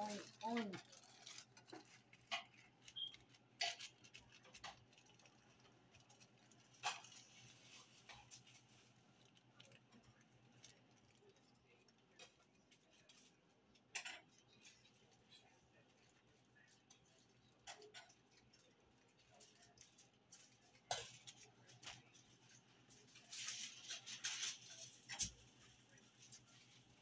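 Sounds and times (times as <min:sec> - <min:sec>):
foil and leaves crinkling: 0:00.0 - 0:13.8, 0:14.4 - 0:27.0.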